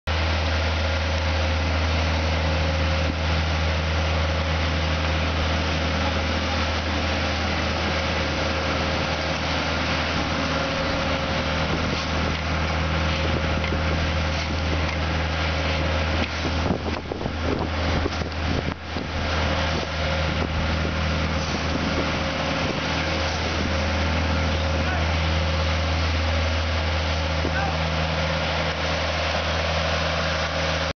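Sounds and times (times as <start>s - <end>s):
road roller engine droning: 0.1s - 30.9s.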